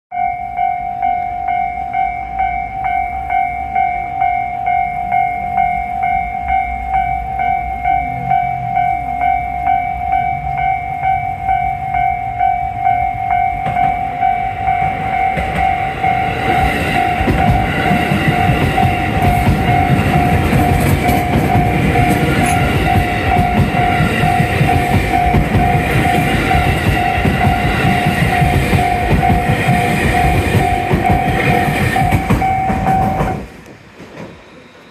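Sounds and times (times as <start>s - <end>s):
level crossing bell clanging: 0.1s - 33.5s
electric train rumbling past: 0.1s - 34.9s.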